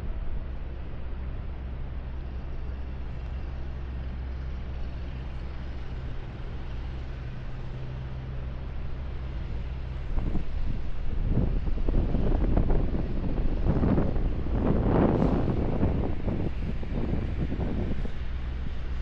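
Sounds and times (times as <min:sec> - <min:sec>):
street noise: 0:00.0 - 0:19.0
vehicle engine running: 0:00.0 - 0:19.0.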